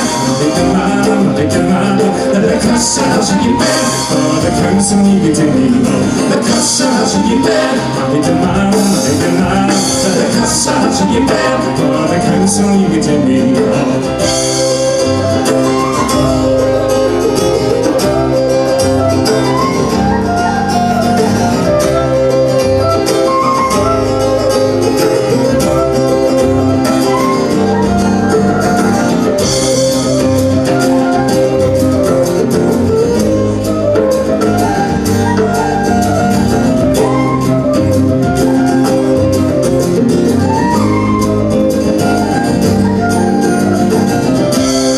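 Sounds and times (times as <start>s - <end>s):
bass line: 0.0s - 44.9s
strummed acoustic guitar: 0.0s - 44.9s.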